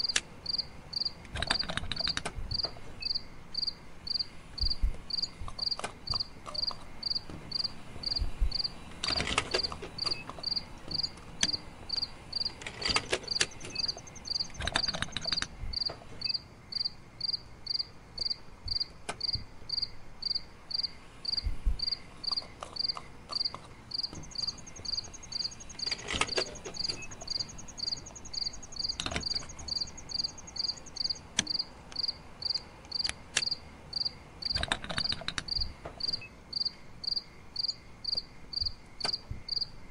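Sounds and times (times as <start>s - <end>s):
crickets chirping: 0.0s - 39.9s
high insect trill: 0.0s - 39.9s.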